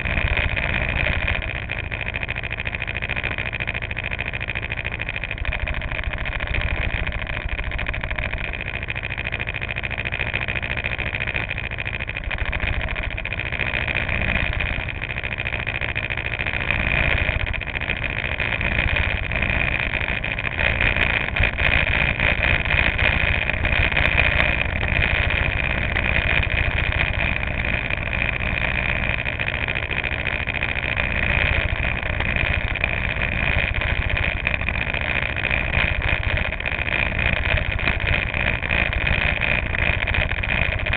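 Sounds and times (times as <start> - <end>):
go-kart engines idling: 0.0 - 40.9.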